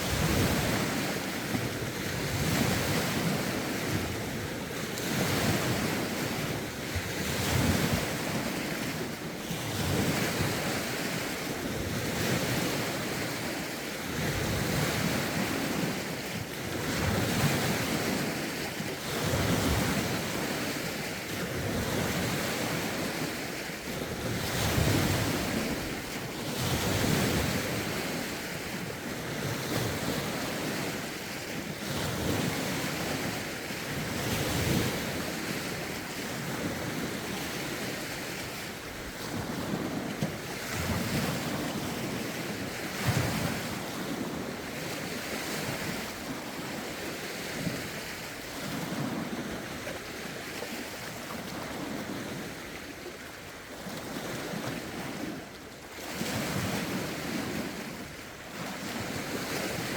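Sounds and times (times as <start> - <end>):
wind buffeting microphone: 0.0 - 50.3
waves washing onto shore: 0.0 - 59.9.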